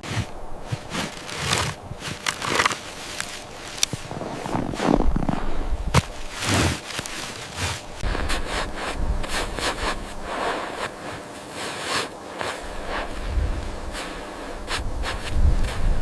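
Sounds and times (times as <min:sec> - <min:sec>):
rubbing and scraping strokes: 0:00.0 - 0:16.0.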